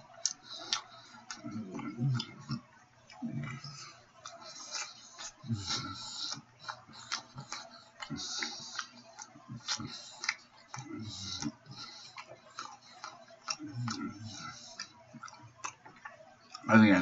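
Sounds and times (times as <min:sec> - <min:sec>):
man chewing and lip-smacking: 0:00.0 - 0:16.8.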